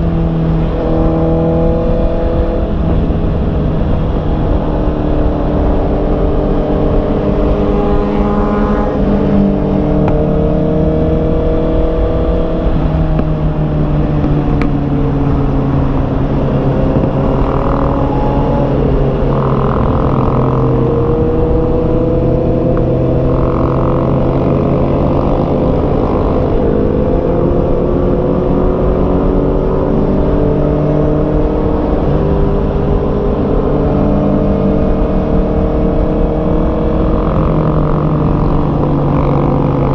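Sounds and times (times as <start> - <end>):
motorcycle engine accelerating: 0.0 - 39.9
wind on microphone: 0.0 - 39.9.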